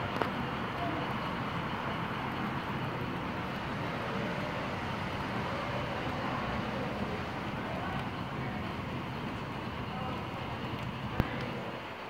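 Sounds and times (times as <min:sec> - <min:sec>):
model train wheels rumbling on rail: 0:00.0 - 0:12.0.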